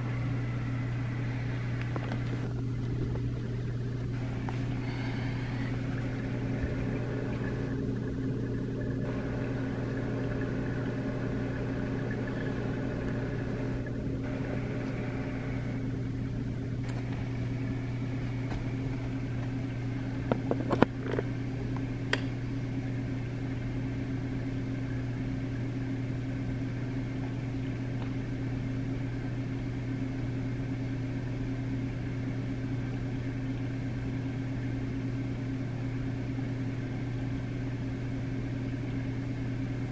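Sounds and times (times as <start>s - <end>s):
aquarium pumps humming: 0.0s - 39.9s.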